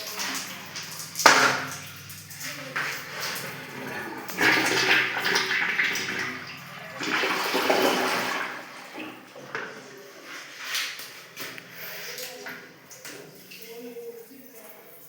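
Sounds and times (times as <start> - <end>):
toilet flushing: 0.0 - 14.7.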